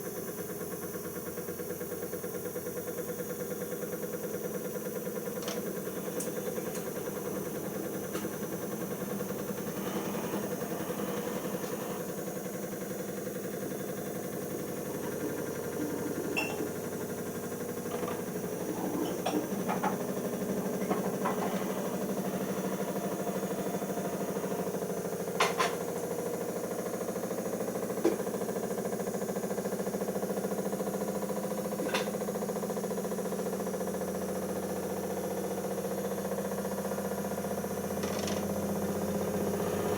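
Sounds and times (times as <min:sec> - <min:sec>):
washing machine hum: 0:00.0 - 0:39.9.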